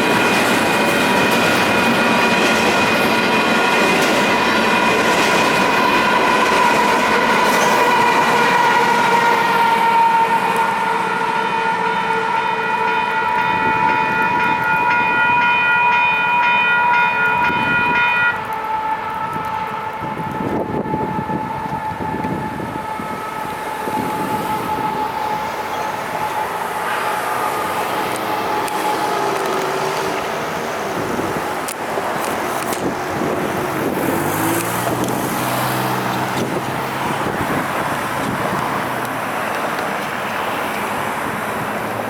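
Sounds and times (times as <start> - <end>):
crossing signal bells ringing: 0.0 - 41.4
freight train rumbling: 0.0 - 42.0.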